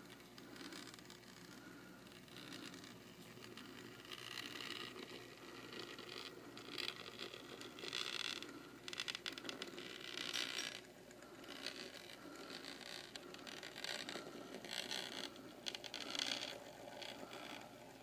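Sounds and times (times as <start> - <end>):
small motor whirring: 0.0 - 18.0.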